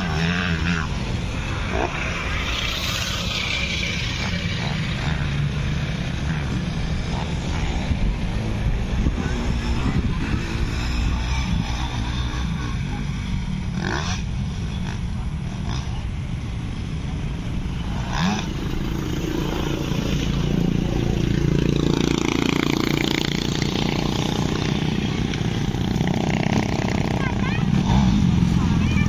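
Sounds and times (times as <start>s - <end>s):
dirt bike engines running: 0.0s - 29.0s.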